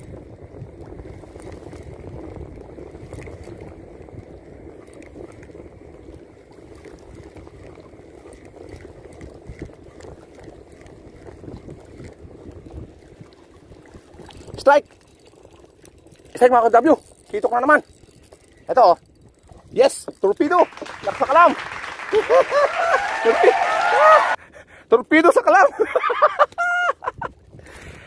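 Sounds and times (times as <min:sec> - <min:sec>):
seawater lapping against rocks: 0:00.0 - 0:24.4.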